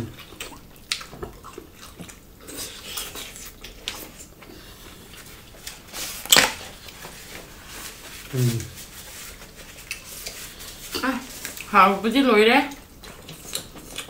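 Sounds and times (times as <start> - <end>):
wet chewing: 0.1 - 7.0, 8.4 - 11.8, 12.7 - 14.0.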